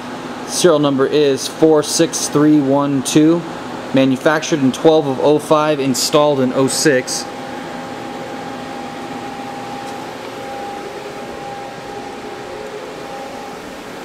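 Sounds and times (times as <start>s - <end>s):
faint steady whine: 0.0s - 14.0s
machinery hum and hiss: 0.0s - 14.0s.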